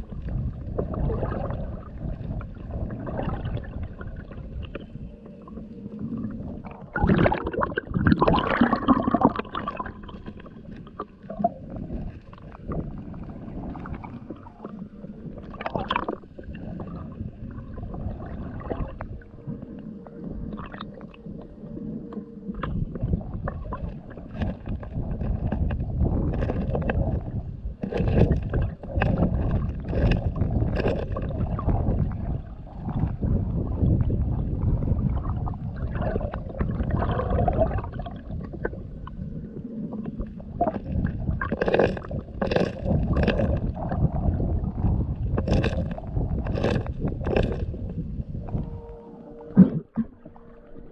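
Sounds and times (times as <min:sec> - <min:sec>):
muffled underwater river rushing: 0:00.0 - 0:50.9.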